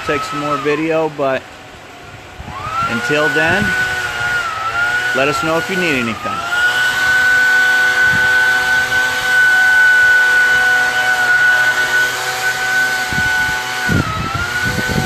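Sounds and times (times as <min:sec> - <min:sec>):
small machine whining: 0:00.0 - 0:15.0.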